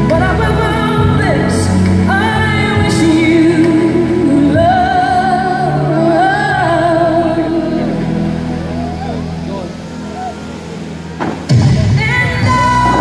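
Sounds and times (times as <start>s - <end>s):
music over loudspeakers: 0.0s - 13.0s.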